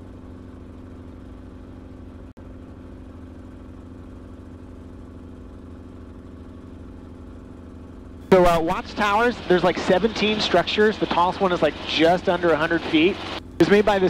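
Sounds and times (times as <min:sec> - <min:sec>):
helicopter engine and rotor drone: 0:00.0 - 0:14.0.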